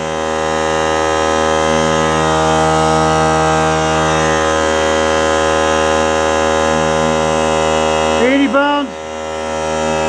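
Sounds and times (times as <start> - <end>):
air compressor running: 0.0 - 10.0.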